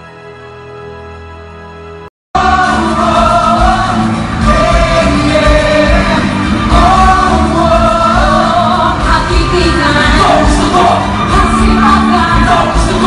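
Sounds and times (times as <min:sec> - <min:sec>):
live pop music with heavy beat: 0:02.4 - 0:13.0
person singing: 0:02.4 - 0:13.0.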